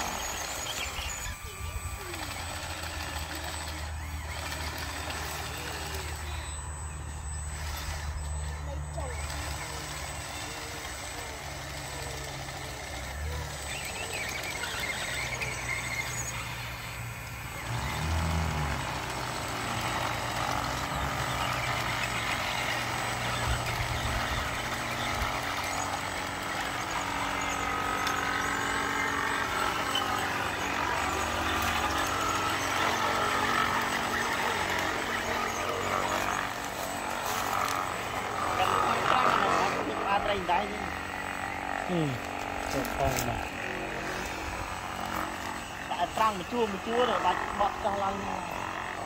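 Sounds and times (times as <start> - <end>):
steady low hum: 0.0 - 49.0
wavering high whine: 0.0 - 49.0.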